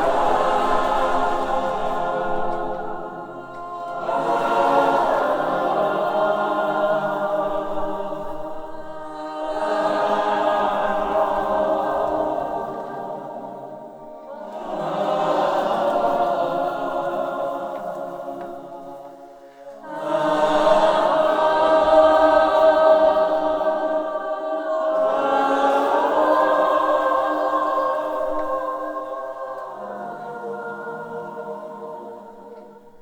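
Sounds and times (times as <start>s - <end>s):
choir singing held chords: 0.0s - 33.0s.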